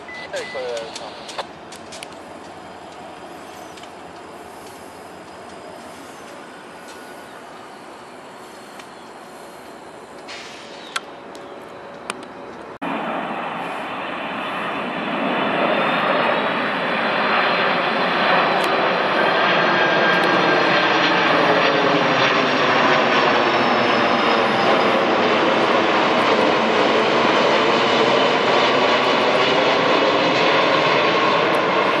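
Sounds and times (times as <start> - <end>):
jet plane roaring overhead: 0.0 - 32.0.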